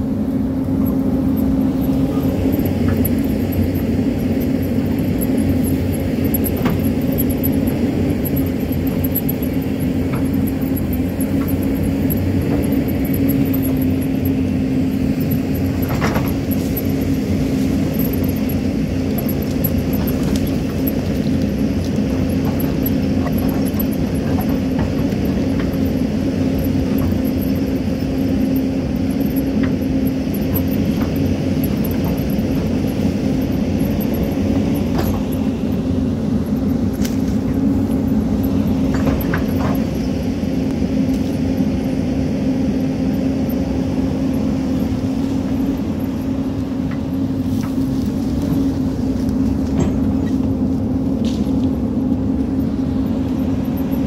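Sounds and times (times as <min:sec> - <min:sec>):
excavator diesel engine droning: 0:00.0 - 0:54.0.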